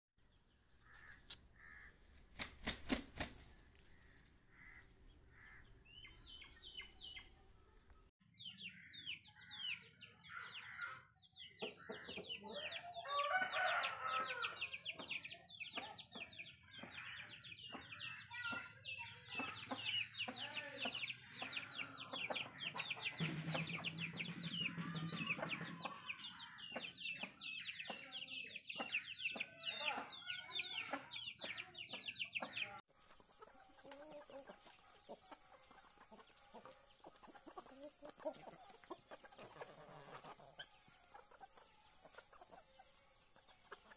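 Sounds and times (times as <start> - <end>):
chickens clucking: 0.7 - 8.0, 10.5 - 43.9
chick peeping: 0.9 - 43.9.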